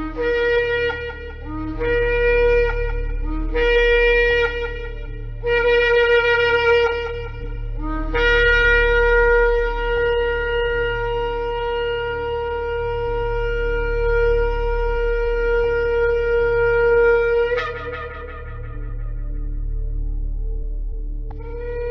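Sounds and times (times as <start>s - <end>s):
shofar blasts: 0.0s - 20.0s, 21.3s - 21.9s
steady low hum: 0.0s - 21.9s.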